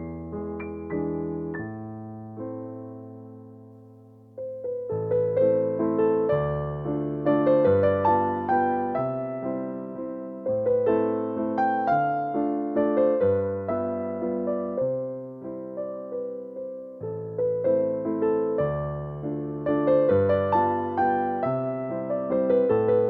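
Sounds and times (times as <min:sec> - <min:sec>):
gentle piano piece: 0:00.0 - 0:23.0.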